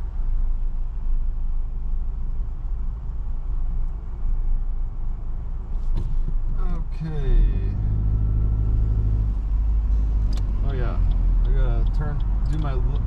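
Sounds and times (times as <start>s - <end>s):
car idling low rumble: 0.0s - 13.0s.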